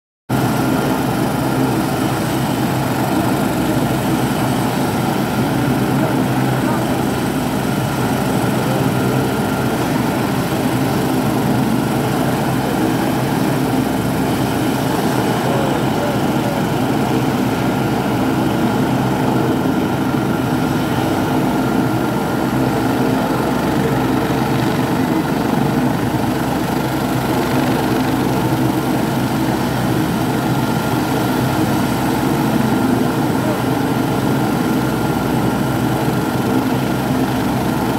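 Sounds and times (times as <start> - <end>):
helicopter rotor and engine noise: 0.3 - 37.9
high turbine whine: 0.3 - 37.9.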